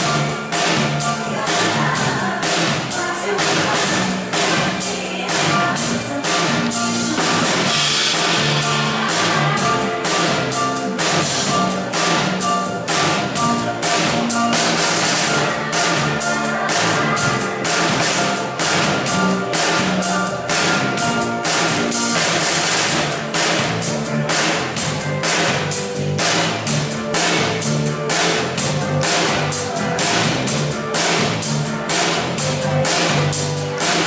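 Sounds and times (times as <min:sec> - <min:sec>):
drum kit steady beat: 0:00.0 - 0:34.0
live pop band playing: 0:00.0 - 0:34.0.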